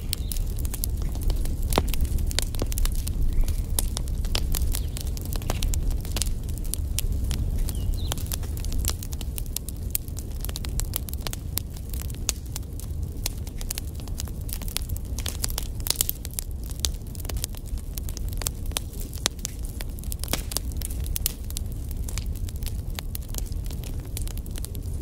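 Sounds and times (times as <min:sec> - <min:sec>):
logs crackling and popping: 0:00.0 - 0:25.0
low rumble of flames: 0:00.0 - 0:25.0.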